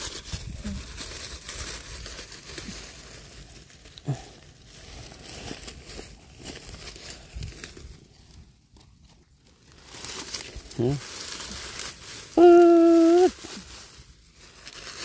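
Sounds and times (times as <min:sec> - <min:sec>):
crinkling and rustling: 0:00.0 - 0:15.0.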